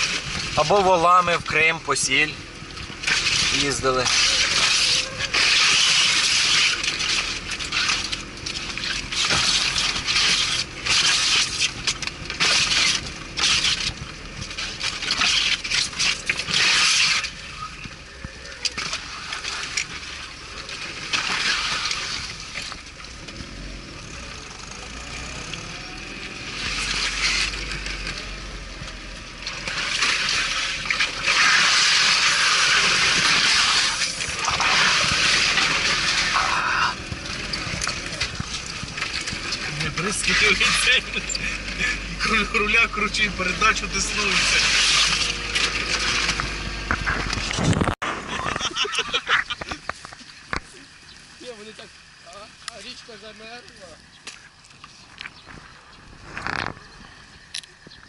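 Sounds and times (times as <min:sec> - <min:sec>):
vehicle splashing through water and mud: 0:00.0 - 0:58.0.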